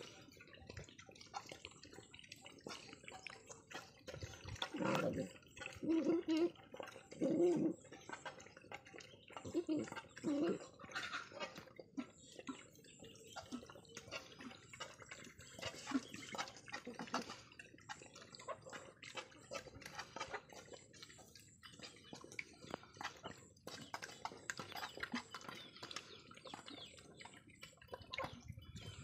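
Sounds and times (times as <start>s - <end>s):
dogs lapping and slurping: 0.0s - 29.0s.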